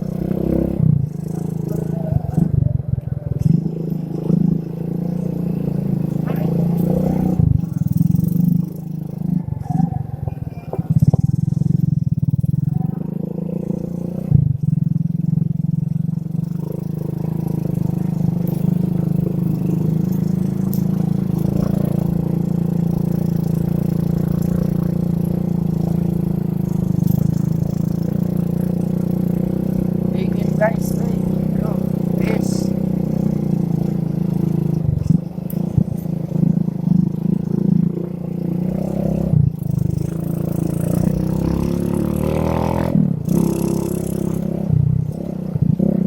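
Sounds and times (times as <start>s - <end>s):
muffled motorcycle engine: 0.0s - 46.0s.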